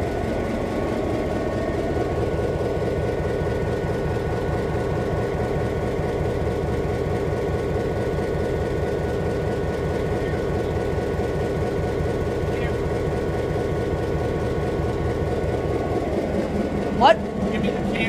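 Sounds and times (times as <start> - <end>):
locomotive diesel engine rumble: 0.0 - 18.0.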